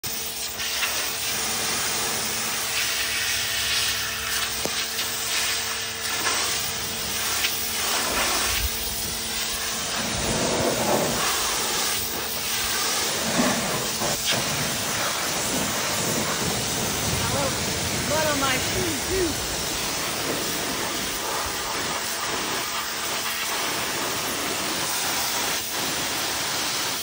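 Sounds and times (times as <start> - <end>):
pressure washer spraying: 0.0 - 27.0.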